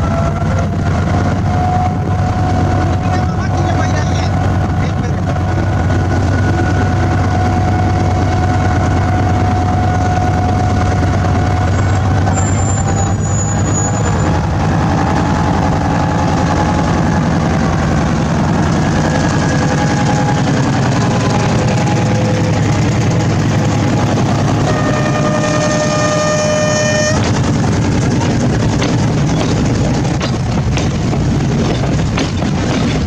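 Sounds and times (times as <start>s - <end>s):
diesel locomotive engine running: 0.0s - 33.0s.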